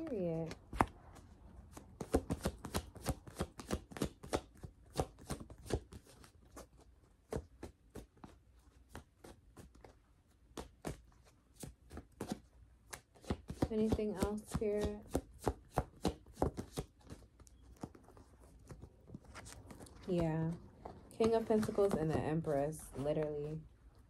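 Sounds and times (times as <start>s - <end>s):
cards being shuffled: 0.0s - 23.6s.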